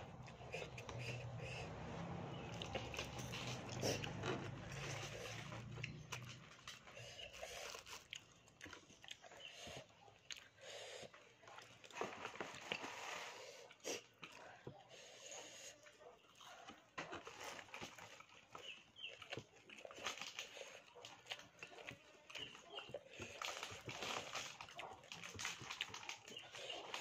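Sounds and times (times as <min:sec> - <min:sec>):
crunching and chewing: 0:00.0 - 0:27.0.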